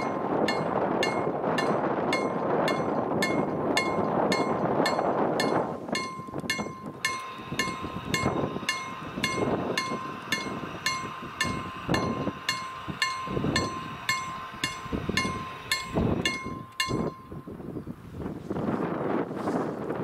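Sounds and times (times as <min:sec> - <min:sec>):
level crossing warning bell: 0:00.0 - 0:17.6.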